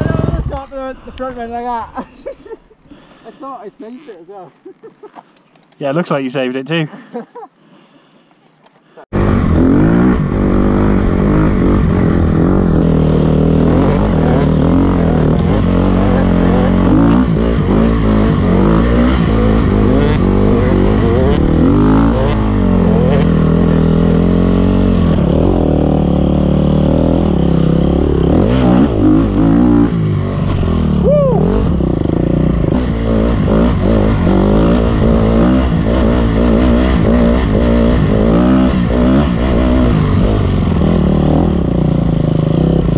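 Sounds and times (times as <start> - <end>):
dirt bike engine revving: 0.0 - 0.6, 9.1 - 42.9.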